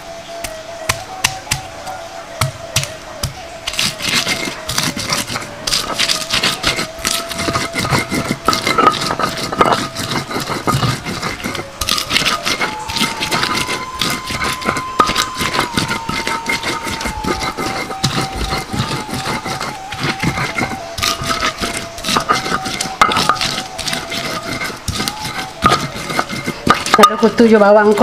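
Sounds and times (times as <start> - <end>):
stone pestle grinding on stone: 2.4 - 28.0.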